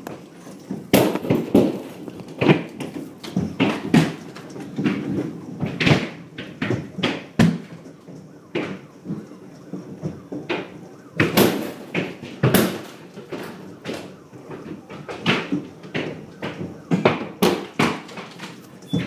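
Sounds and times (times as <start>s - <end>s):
hailstones striking hard surface: 0.0s - 7.9s, 8.5s - 19.0s.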